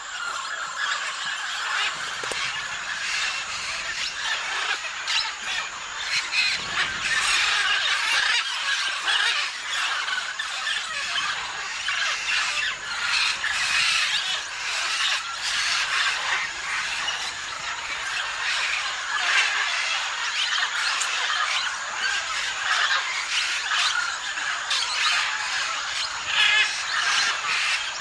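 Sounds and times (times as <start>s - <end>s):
parrots squawking and screeching: 0.0s - 28.0s.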